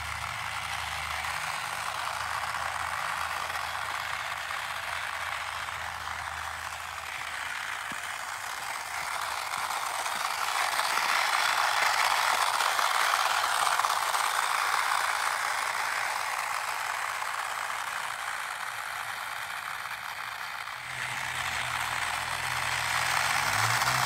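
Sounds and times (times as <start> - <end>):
toy truck motor whirring: 0.0 - 24.0
wheels over gravel: 0.0 - 24.0.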